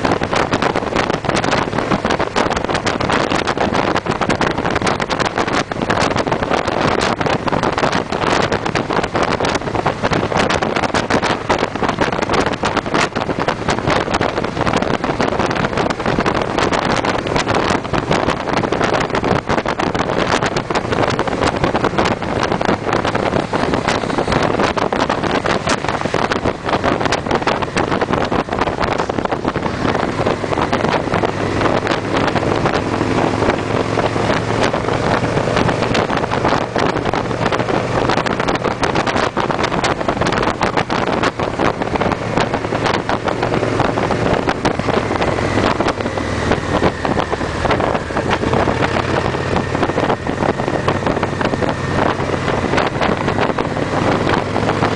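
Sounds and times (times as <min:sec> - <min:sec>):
motorcycles cruising: 0:00.0 - 0:54.9
wind buffeting microphone: 0:00.0 - 0:54.9.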